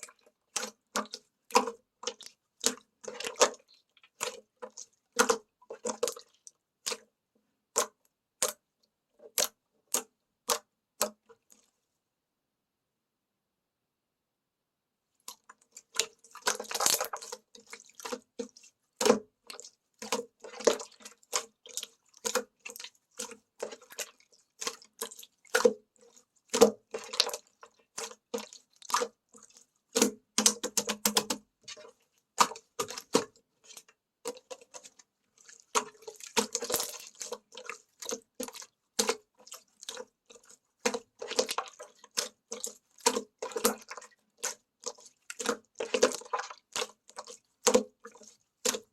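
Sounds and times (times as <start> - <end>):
slime squishing with wet clicks: 0.0 - 11.8, 15.2 - 48.9.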